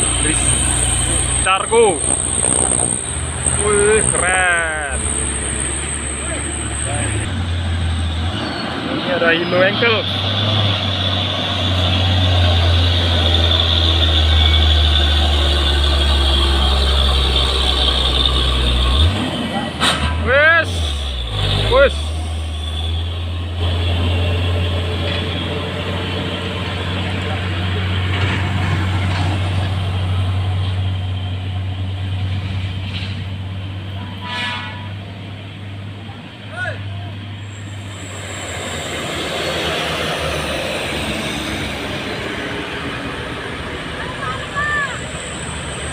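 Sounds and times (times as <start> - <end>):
truck diesel engine droning: 0.0 - 45.9.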